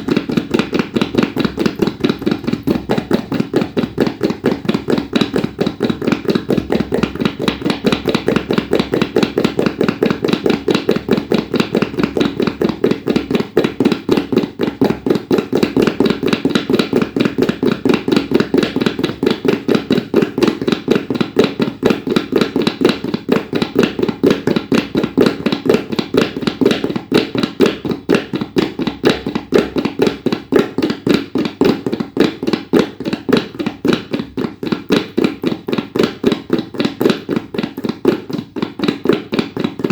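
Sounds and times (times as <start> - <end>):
fast tabla strokes: 0.0 - 39.9.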